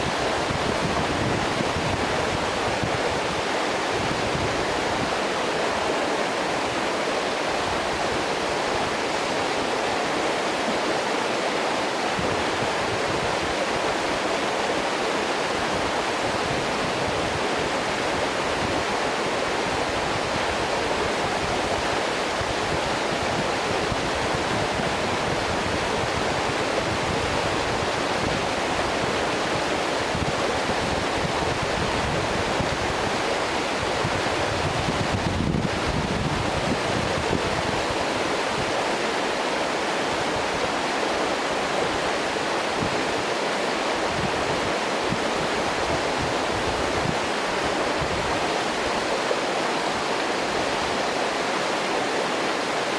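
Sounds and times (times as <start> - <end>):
waterfall pouring and splashing: 0.0 - 52.9.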